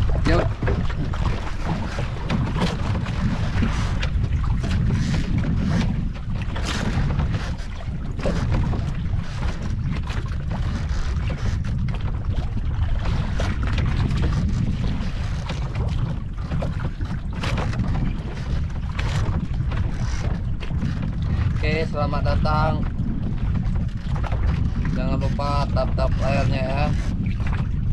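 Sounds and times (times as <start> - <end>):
water slapping boat hull: 0.0 - 27.9
wind buffeting microphone: 0.0 - 27.9.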